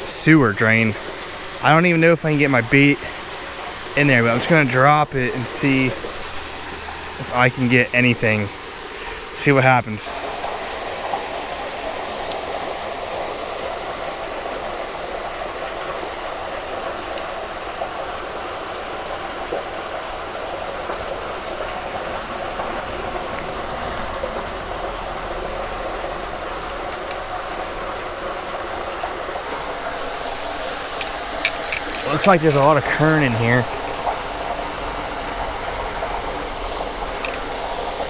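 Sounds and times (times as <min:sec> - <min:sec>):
water rushing through sewer drain: 0:00.0 - 0:38.0.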